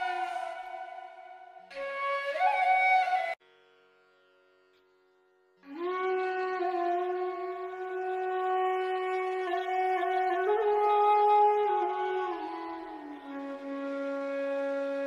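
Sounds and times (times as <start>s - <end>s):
wind instrument long notes: 0.0s - 3.4s, 5.7s - 15.0s.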